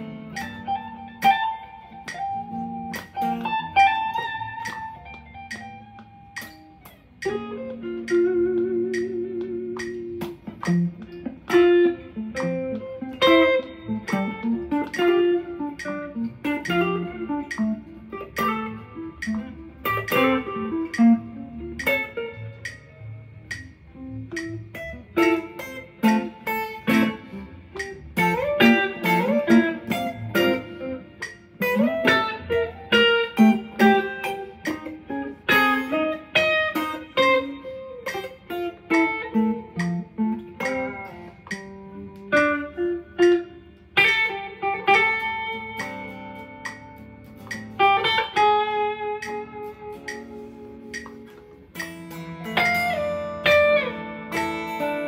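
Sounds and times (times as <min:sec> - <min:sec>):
electric guitars playing jazz: 0:00.0 - 0:55.0.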